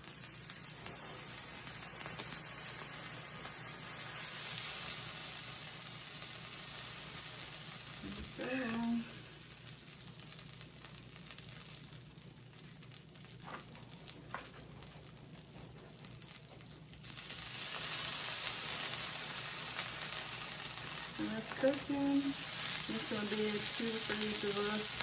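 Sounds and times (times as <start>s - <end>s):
tortillas sizzling in oil: 0.0s - 25.0s.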